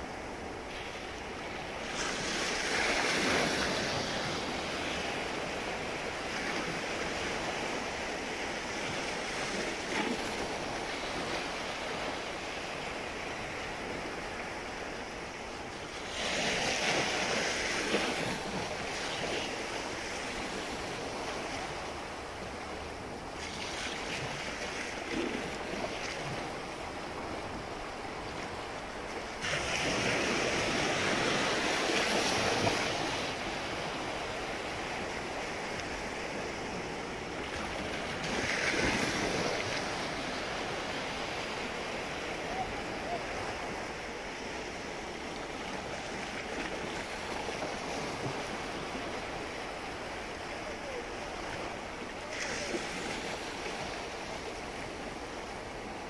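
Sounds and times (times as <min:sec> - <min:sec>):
small waves washing up beach: 0:00.0 - 0:56.0.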